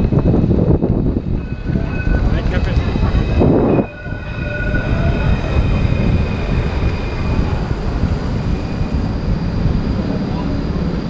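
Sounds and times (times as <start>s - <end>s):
tram passing with whine: 0.0s - 11.0s
wind rumble on microphone: 0.0s - 11.0s.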